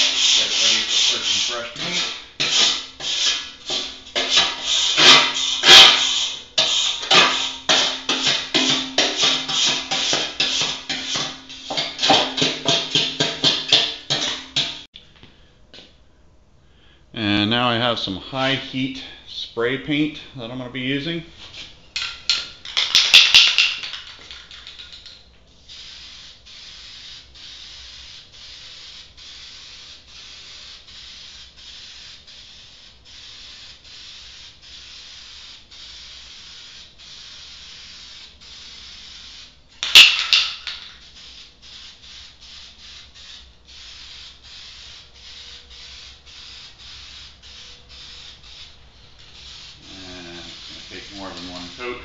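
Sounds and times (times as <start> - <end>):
spray can rattling: 0.0 - 14.9, 22.0 - 52.0
spray paint can hissing: 0.0 - 14.9, 22.6 - 52.0.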